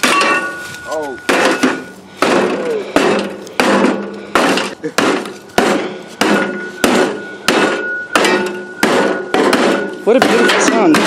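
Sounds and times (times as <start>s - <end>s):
shovel striking metal casing: 0.0s - 11.0s.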